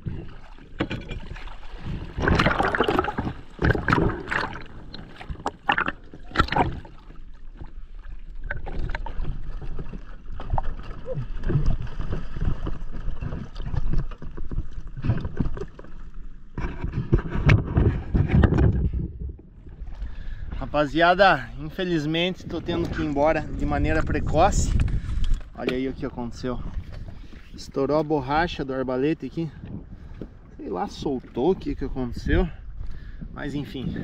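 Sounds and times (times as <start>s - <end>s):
sea water sloshing and splashing: 0.0s - 34.0s.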